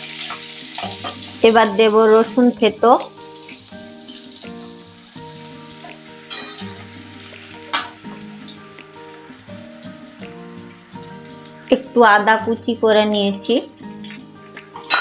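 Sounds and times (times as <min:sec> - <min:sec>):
garlic sizzling in hot oil: 0:00.0 - 0:15.0
soft background music: 0:00.0 - 0:15.0.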